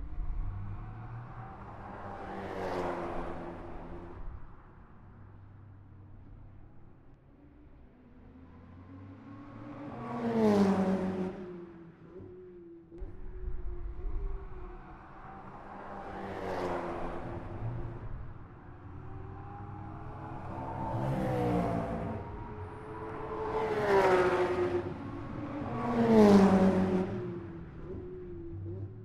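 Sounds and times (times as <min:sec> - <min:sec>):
race cars passing by: 0:00.0 - 0:29.0.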